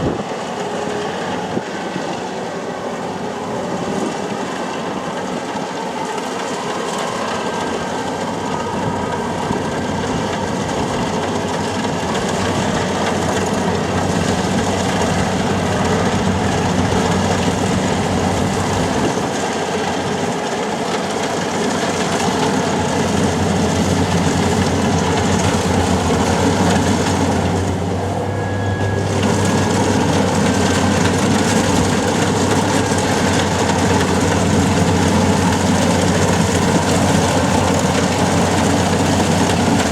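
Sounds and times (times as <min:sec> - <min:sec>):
combine harvester engine hum: 0:00.0 - 0:39.9
mechanical noise of harvester: 0:00.0 - 0:39.9.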